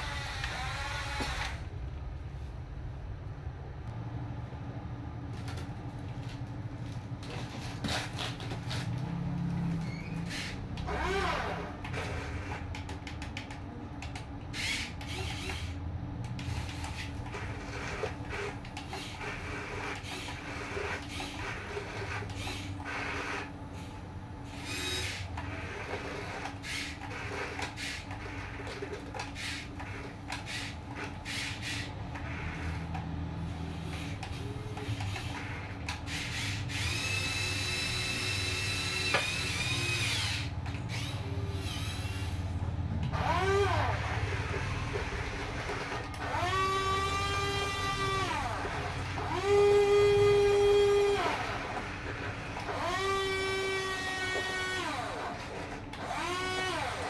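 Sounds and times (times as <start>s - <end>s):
toy motors and gearboxes whirring: 0.0s - 1.7s, 5.3s - 57.0s.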